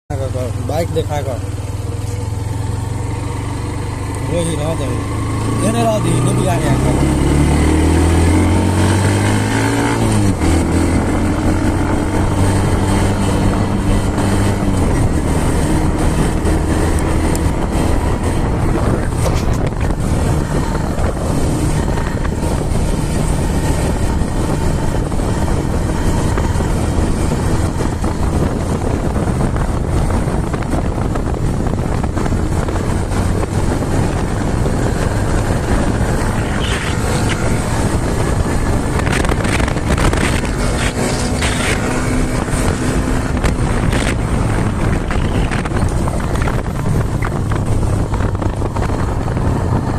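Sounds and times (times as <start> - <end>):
motorcycle engine running: 0.1 - 49.9
continuous rushing noise: 4.3 - 49.9.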